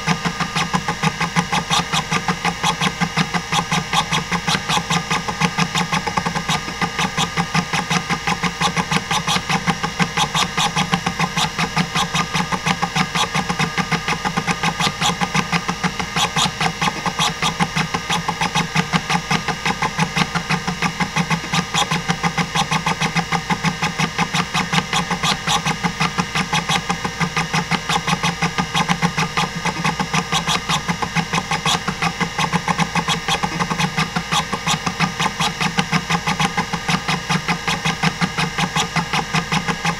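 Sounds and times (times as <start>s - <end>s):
hard drive buzzing clicks: 0.0s - 39.9s
spinning platters hum: 0.0s - 39.9s.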